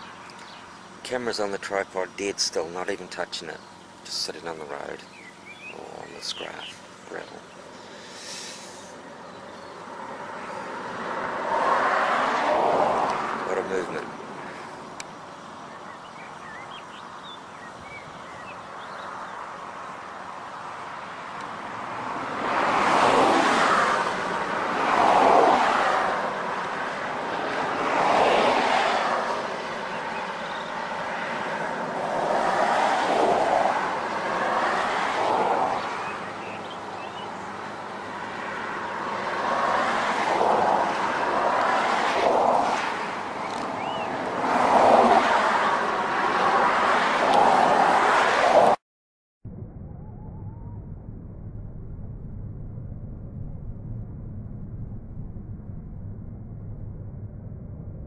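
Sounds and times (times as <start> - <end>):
vehicles passing: 0.0 - 48.8.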